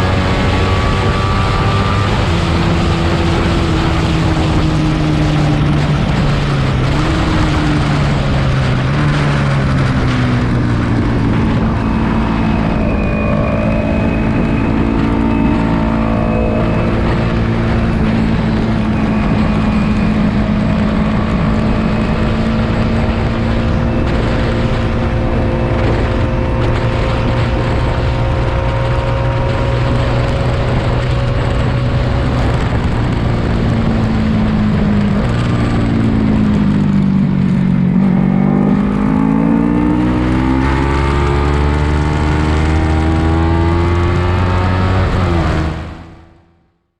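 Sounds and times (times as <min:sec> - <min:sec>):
race motorcycle engine at high revs: 0:00.0 - 0:46.4.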